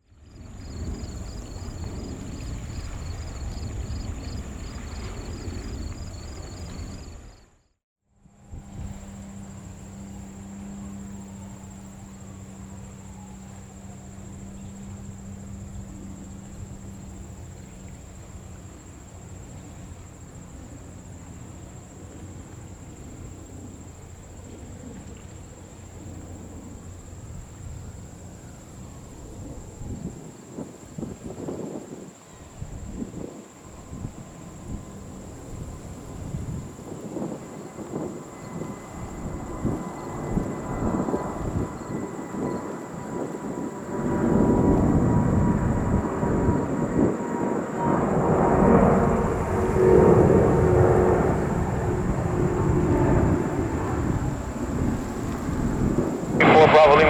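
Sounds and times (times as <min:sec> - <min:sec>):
constant high buzz: 0:00.0 - 0:07.4, 0:08.2 - 0:57.0
insects chirping: 0:00.0 - 0:07.7, 0:08.5 - 0:57.0
wind: 0:00.0 - 0:57.0
distant jet engine rumble: 0:00.1 - 0:07.5, 0:08.4 - 0:57.0.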